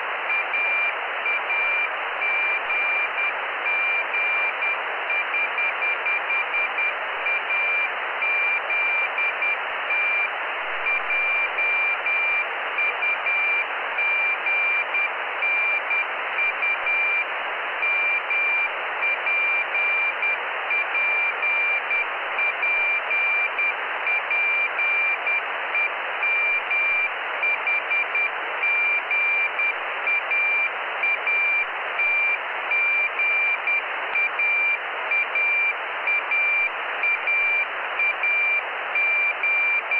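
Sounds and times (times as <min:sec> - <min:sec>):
receiver hiss: 0:00.0 - 0:39.9.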